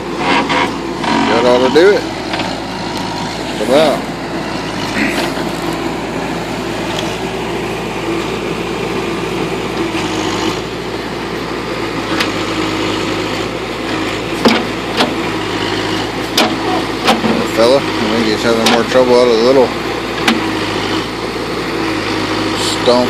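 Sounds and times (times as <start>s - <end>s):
backhoe diesel engine running: 0.0s - 23.0s.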